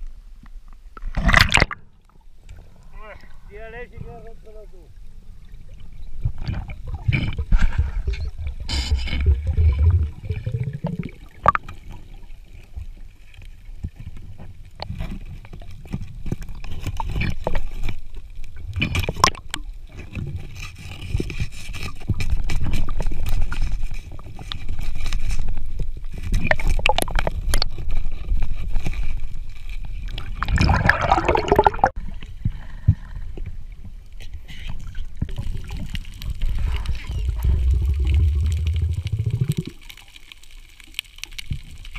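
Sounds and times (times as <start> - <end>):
underwater gurgling and sloshing: 0.0 - 41.9.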